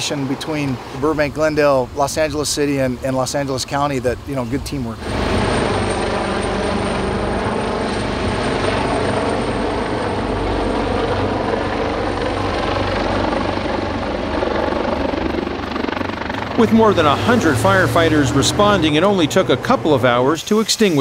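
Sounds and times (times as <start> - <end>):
helicopter flying overhead: 0.0 - 21.0.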